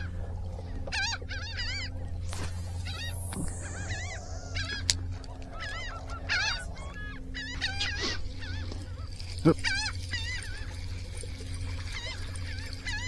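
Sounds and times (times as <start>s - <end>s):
seabirds calling: 0.0s - 13.0s.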